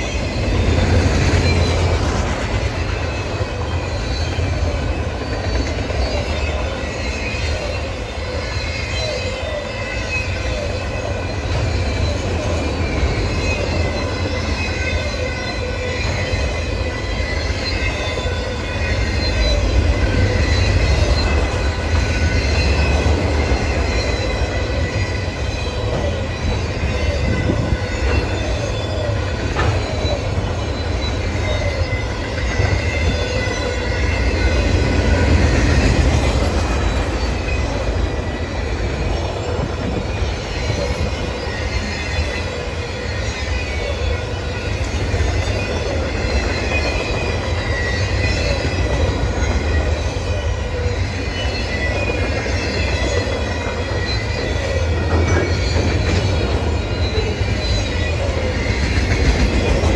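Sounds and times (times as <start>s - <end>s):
freight train rumbling past: 0.0s - 59.9s
train wheels squealing on rail: 0.0s - 59.9s.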